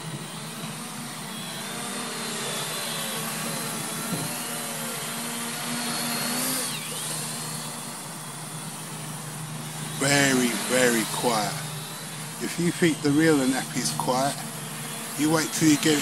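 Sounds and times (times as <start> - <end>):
drone propeller whir: 0.0 - 16.0.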